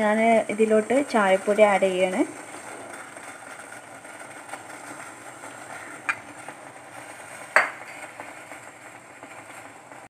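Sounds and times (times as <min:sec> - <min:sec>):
water boiling in a pot: 0:00.0 - 0:10.0.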